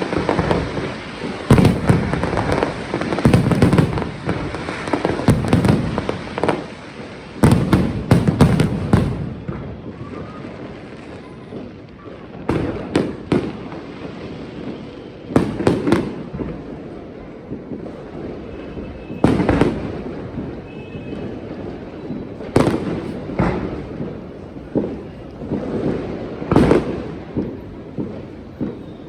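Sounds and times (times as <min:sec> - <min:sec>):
fireworks bursting with sharp bangs: 0:00.0 - 0:29.0.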